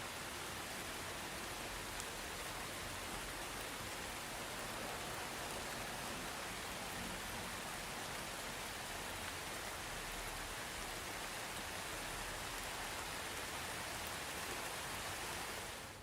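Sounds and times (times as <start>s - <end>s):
soft rain falling: 0.0s - 16.0s.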